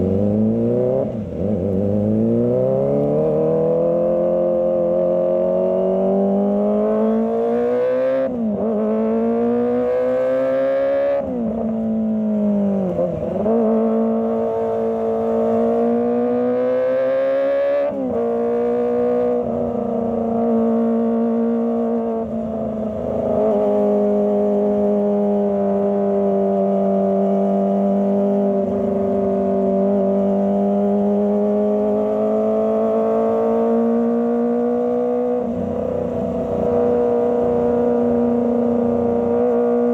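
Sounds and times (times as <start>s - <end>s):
motorcycle engine revving: 0.0s - 11.6s, 12.3s - 39.9s.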